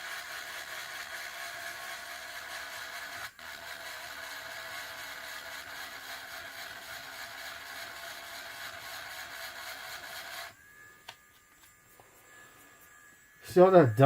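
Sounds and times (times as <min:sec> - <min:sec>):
electric sander running: 0:00.0 - 0:14.0.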